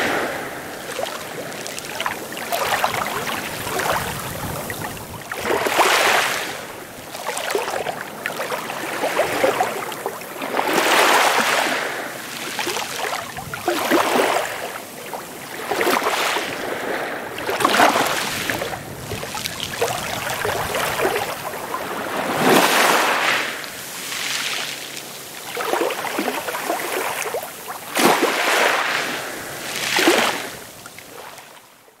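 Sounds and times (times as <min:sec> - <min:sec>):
small waves washing on shore: 0:00.0 - 0:31.9.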